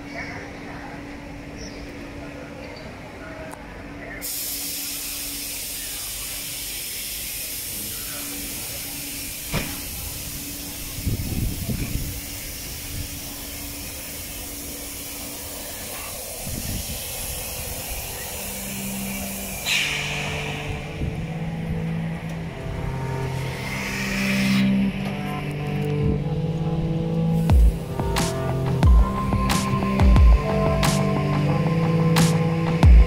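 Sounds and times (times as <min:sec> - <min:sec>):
faint steady hum: 0:00.0 - 0:33.0
train air hiss: 0:04.2 - 0:32.7.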